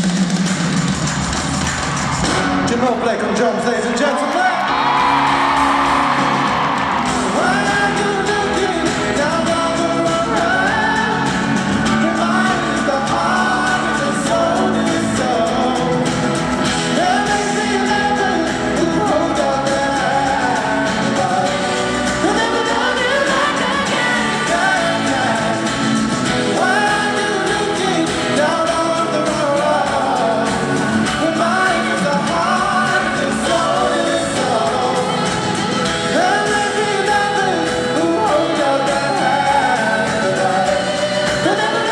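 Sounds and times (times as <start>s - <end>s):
live pop band playing: 0.0s - 41.9s
person singing: 2.7s - 41.9s.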